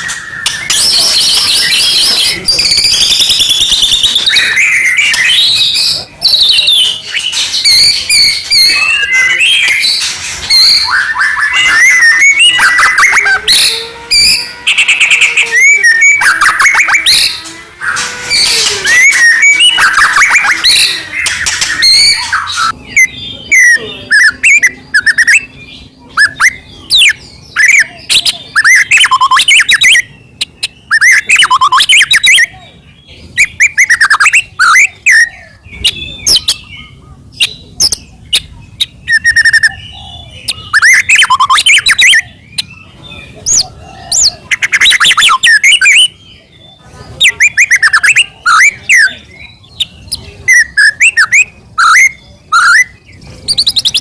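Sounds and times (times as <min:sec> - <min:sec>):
bird sharp chirps: 0:00.0 - 0:54.0
songbird trills and whistles: 0:00.0 - 0:54.0.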